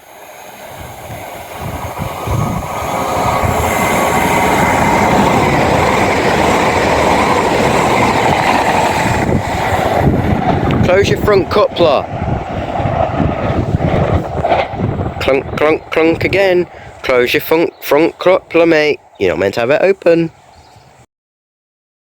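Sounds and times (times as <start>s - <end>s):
train passing at speed: 0.0s - 21.1s.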